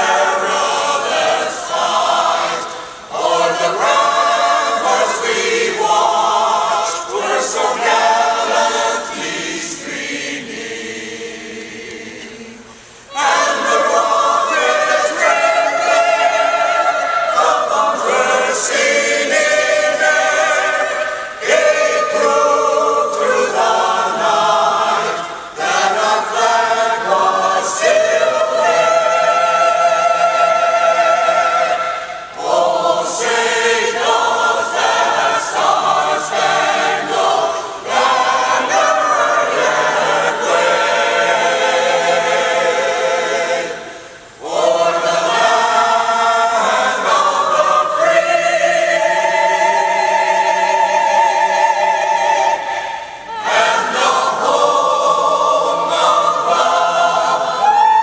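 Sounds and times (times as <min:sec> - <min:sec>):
mixed choir singing unaccompanied: 0:00.0 - 0:58.0.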